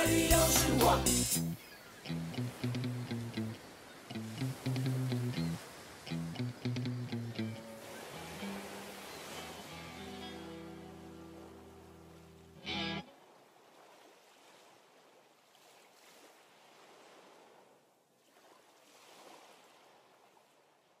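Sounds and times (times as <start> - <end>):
ocean surf: 0.0 - 17.7.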